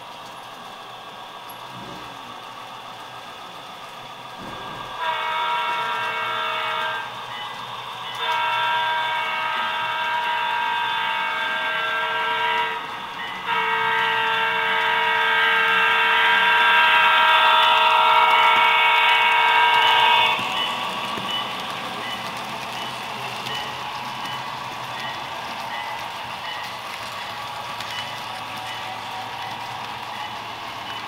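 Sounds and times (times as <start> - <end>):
model locomotive multi-tone horn: 4.5 - 31.0.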